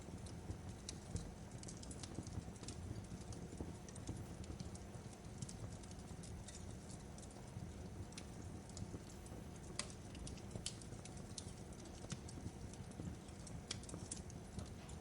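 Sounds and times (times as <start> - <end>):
fire snapping and popping: 0.0 - 15.0
low rumble of flames: 0.0 - 15.0.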